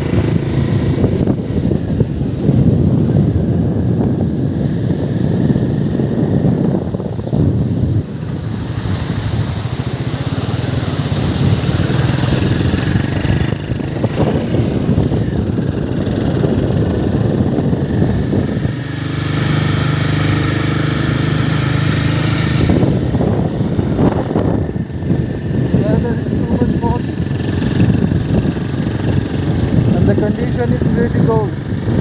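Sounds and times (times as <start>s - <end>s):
noisy rush: 0.0s - 32.0s
vehicle engine running: 0.0s - 32.0s.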